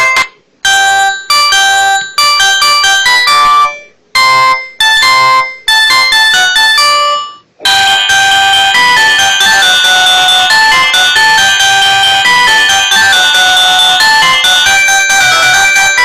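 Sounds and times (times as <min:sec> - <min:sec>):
fuller ringtone tune: 0:00.0 - 0:16.0
mobile phone ringtone melody: 0:00.0 - 0:16.0.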